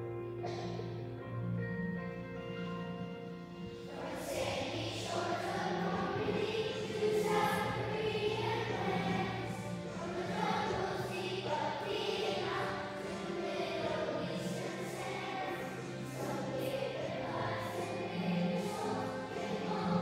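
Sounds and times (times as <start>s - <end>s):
children singing: 3.6s - 20.0s.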